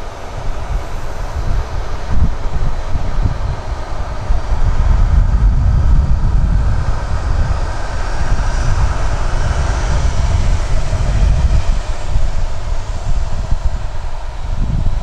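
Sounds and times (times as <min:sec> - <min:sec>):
heavy low rumble: 0:00.0 - 0:15.0
jet engines humming: 0:00.0 - 0:15.0.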